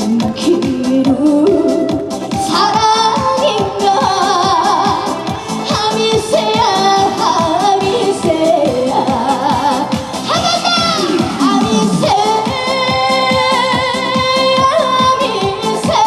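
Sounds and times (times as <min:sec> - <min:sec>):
amplified band backing: 0:00.0 - 0:16.0
woman singing with vibrato: 0:00.0 - 0:16.0.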